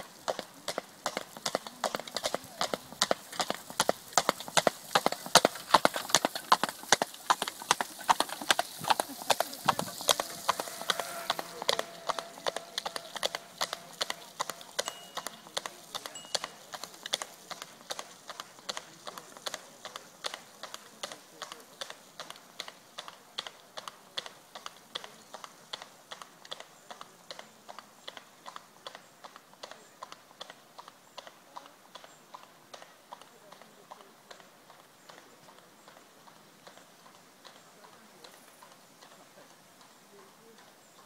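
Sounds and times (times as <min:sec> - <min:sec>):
horse hooves clip-clopping on pavement: 0:00.0 - 0:41.0.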